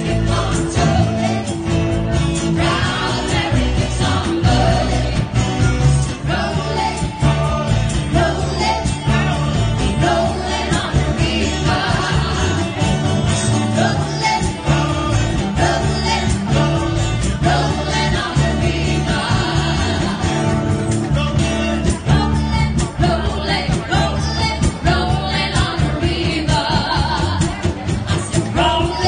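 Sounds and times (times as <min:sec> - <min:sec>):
pop-rock band playing: 0:00.0 - 0:29.0
women singing together: 0:00.0 - 0:29.0.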